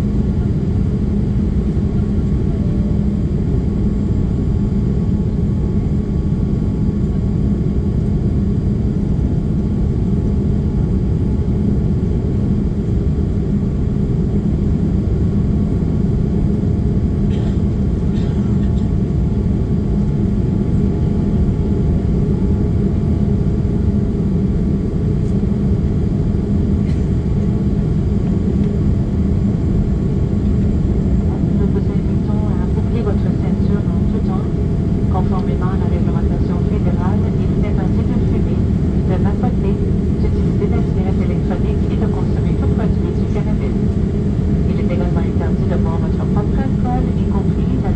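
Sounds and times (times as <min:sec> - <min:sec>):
jet engine and airflow noise: 0:00.0 - 0:47.9.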